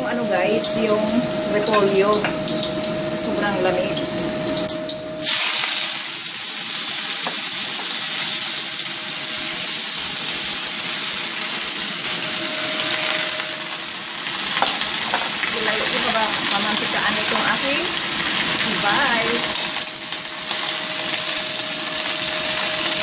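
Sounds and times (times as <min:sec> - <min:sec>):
cabbage sizzling in a pan: 0:00.0 - 0:23.0.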